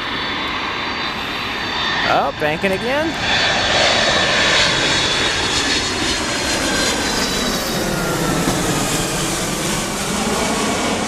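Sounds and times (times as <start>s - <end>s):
jet airliner engines whining: 0.0s - 11.0s.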